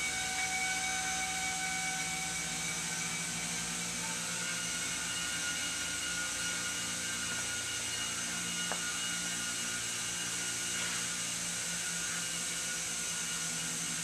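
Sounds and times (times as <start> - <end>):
textile machinery drone: 0.0 - 14.0.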